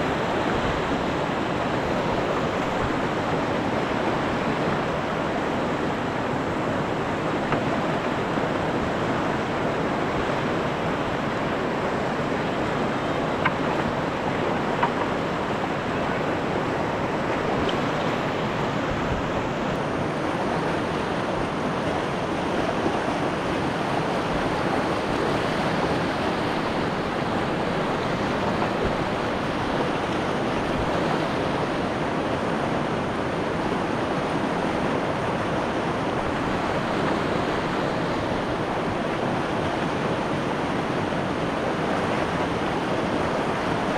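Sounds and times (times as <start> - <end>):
white water rushing over rapids: 0.0 - 43.9.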